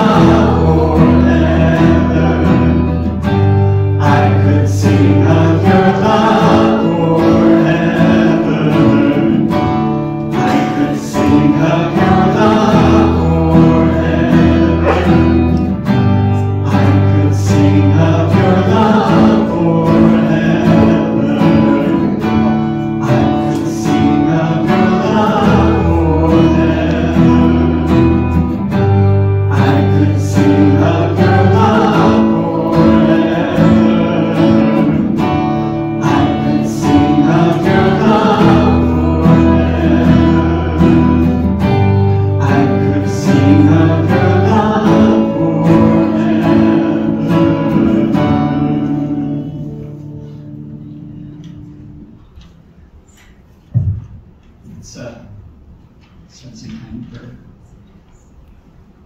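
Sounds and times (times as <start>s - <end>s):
voices singing together: 0.0s - 50.7s
bass guitar notes: 0.0s - 52.4s
acoustic guitar: 0.0s - 59.0s.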